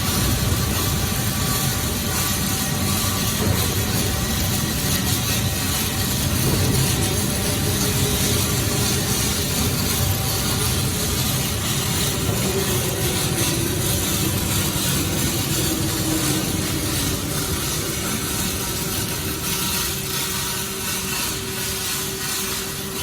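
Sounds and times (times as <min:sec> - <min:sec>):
welding crackling hiss: 0:00.0 - 0:23.0.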